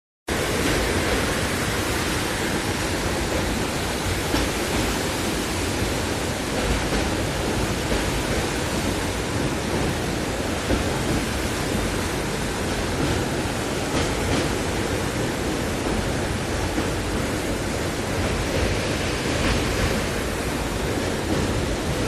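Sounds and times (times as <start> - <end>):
flowing water rushing: 0.3 - 22.0.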